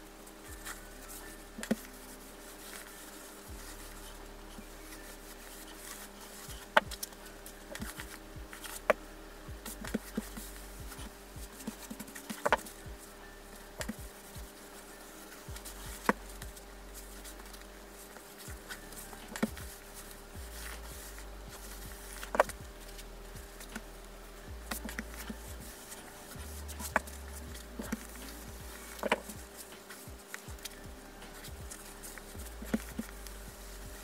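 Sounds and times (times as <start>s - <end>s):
fabric rustling: 0.0s - 34.0s
faint steady hum: 0.0s - 34.0s.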